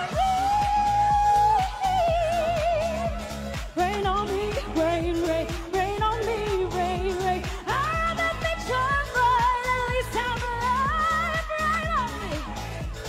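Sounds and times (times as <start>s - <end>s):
pop dance track: 0.0s - 13.0s
woman singing: 0.0s - 13.0s.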